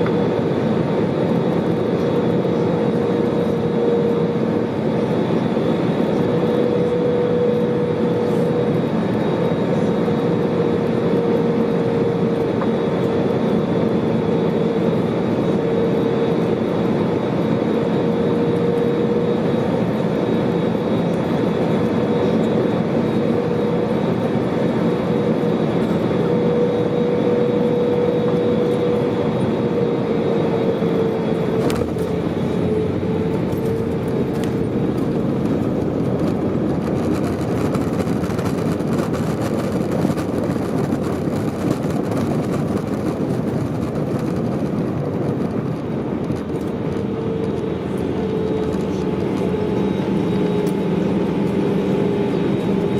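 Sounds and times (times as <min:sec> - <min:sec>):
airplane cabin engine and airflow noise: 0:00.0 - 0:52.9.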